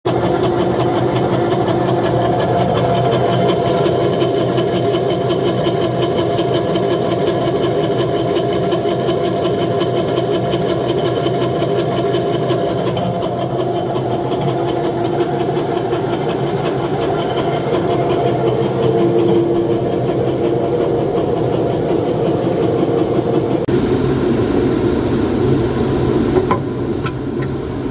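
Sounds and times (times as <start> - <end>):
gear reducer hum and whine: 0.1 - 27.9.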